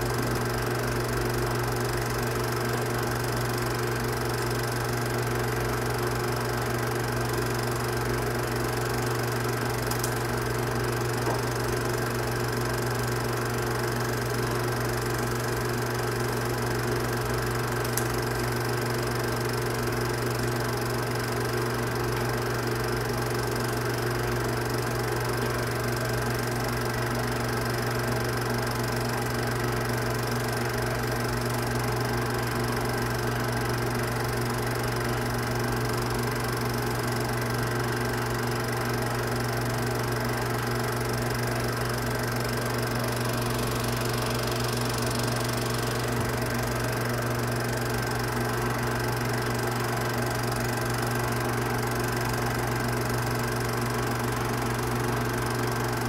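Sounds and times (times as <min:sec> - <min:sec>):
film projector running: 0:00.0 - 0:56.0.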